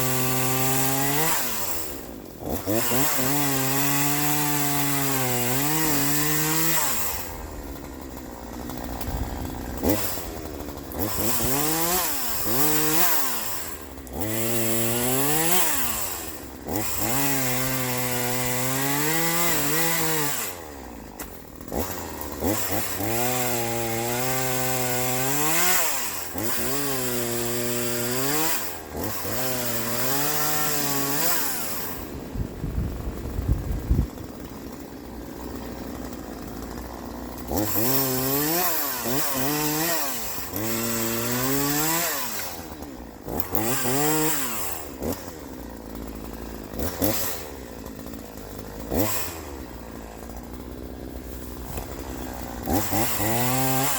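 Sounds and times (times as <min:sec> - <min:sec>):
chainsaw running hard: 0:00.0 - 0:53.9.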